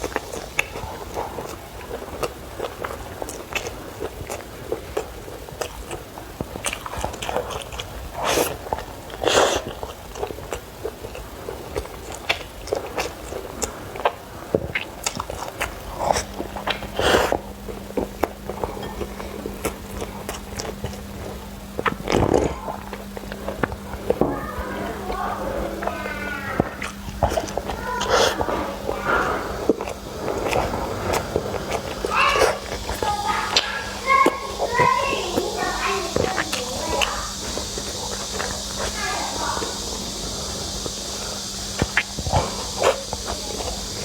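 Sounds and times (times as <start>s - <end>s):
bites and slurps: 0.0s - 44.0s
chewing food: 0.0s - 44.0s.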